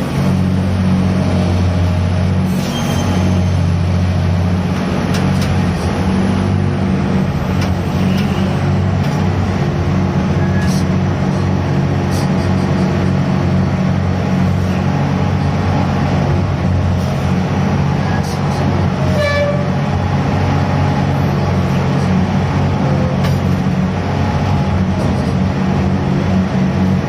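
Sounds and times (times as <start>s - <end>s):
crane machinery droning: 0.0s - 27.0s.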